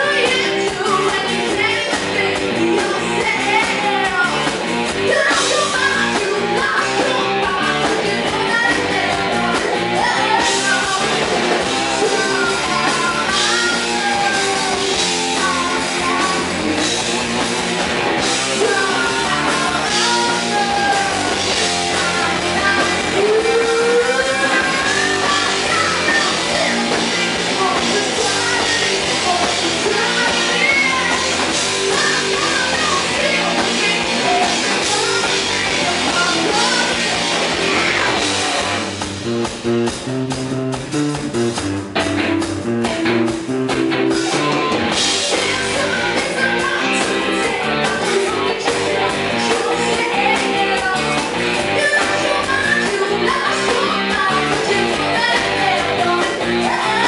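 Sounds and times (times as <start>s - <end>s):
woman singing: 0.0s - 17.1s, 18.2s - 38.3s, 44.1s - 57.0s
live rock band playing: 0.0s - 57.0s.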